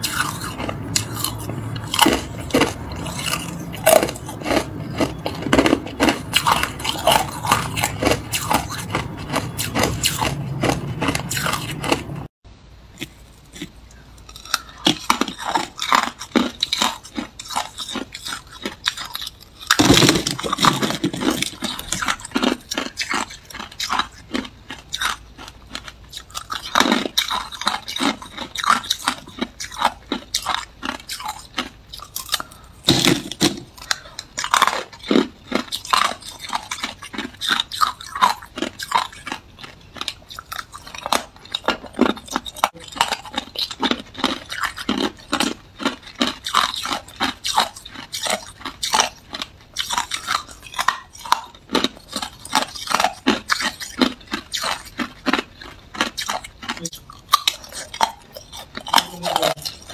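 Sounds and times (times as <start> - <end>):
ice crunching between teeth: 0.0 - 12.3, 13.0 - 59.9.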